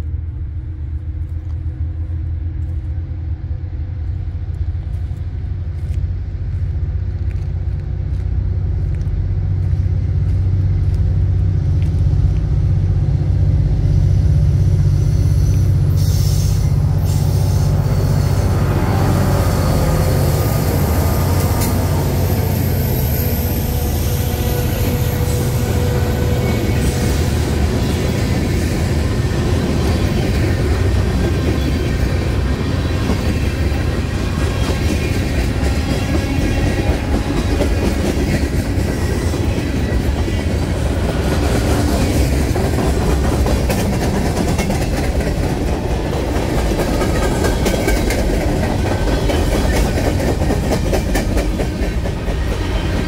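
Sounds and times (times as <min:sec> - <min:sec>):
diesel locomotive engine drone: 0:00.0 - 0:53.0
train wheels rumbling and clacking: 0:00.0 - 0:53.0.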